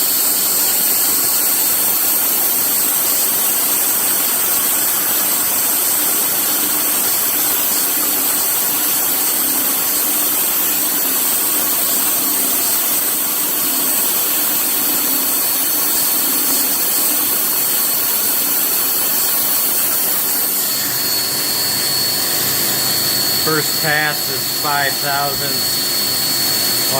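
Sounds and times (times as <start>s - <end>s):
milling machine hiss: 0.0s - 26.9s.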